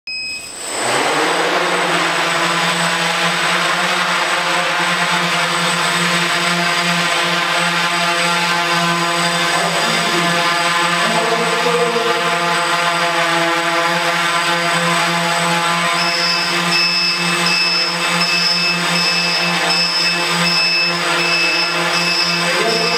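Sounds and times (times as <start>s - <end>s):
quadcopter motors whining: 0.1s - 22.9s.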